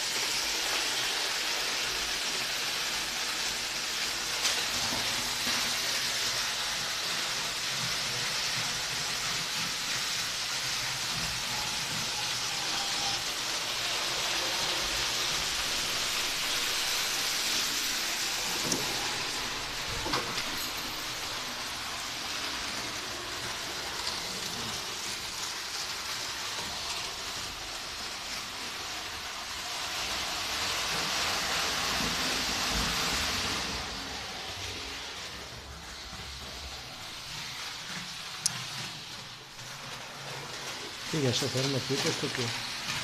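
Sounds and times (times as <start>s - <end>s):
miniature train running on track: 0.0s - 43.0s.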